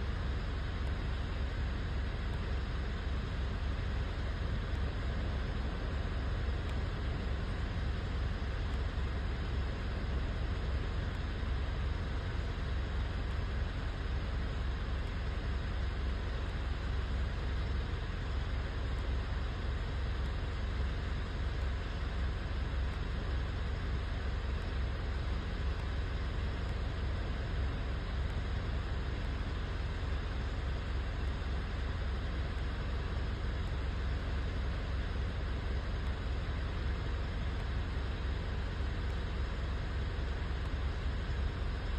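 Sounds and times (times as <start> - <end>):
engine idling with misfire: 0.0 - 41.9.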